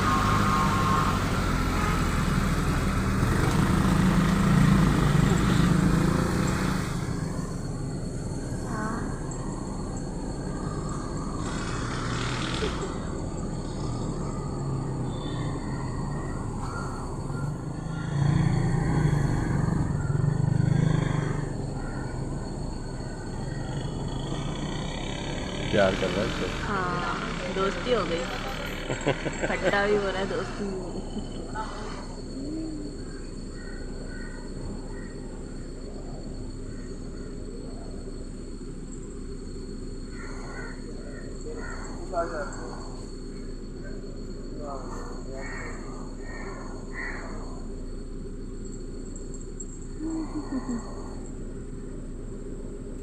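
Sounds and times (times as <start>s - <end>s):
insects droning: 0.0s - 53.0s
low engine rumble: 0.0s - 53.0s.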